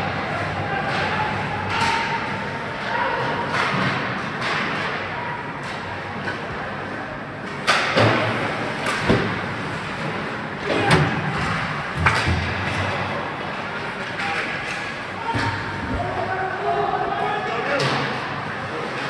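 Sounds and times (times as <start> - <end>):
puck and sticks banging boards: 0.8 - 6.7, 7.4 - 16.4, 17.4 - 19.0.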